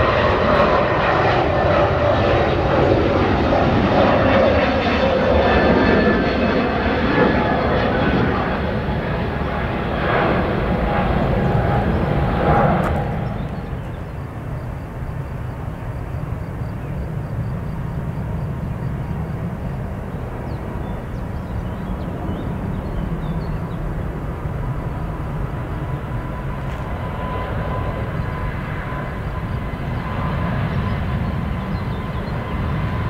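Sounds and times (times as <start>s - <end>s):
jet engines rumbling and whining: 0.0s - 33.0s.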